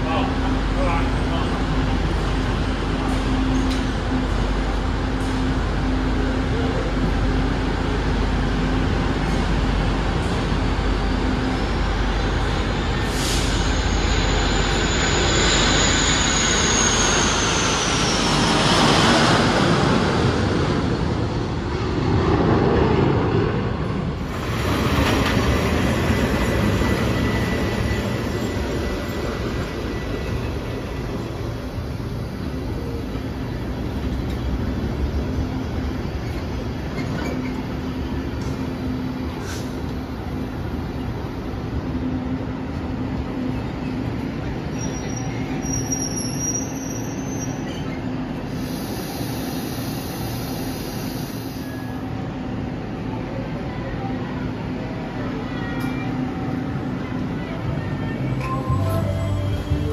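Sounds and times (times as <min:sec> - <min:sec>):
train rumble and rail noise: 0:00.0 - 0:59.9.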